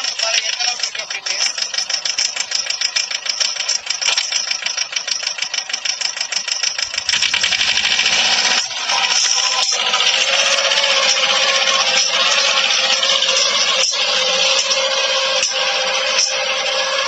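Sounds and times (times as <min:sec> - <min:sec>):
tiller tines scraping soil: 0:00.0 - 0:17.0
tractor diesel engine running: 0:00.0 - 0:17.0.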